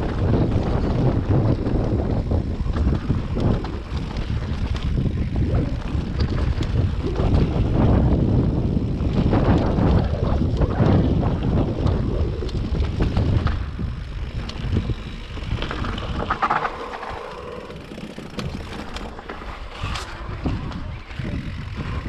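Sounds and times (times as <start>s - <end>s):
bike rumbling on stony track: 0.0s - 22.0s
wind buffeting microphone: 0.0s - 22.0s.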